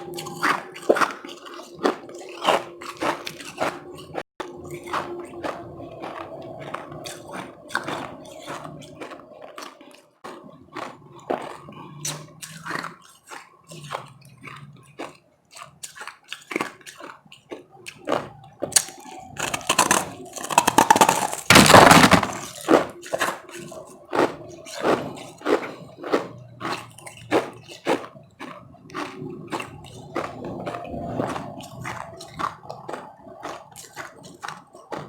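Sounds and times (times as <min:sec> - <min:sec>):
chewing crunchy ice: 0:00.0 - 0:35.0.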